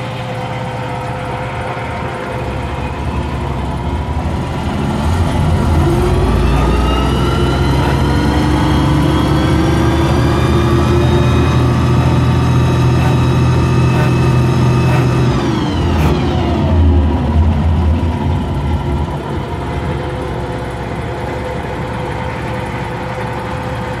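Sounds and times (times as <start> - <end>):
tank engine revving and idling: 0.0 - 24.0.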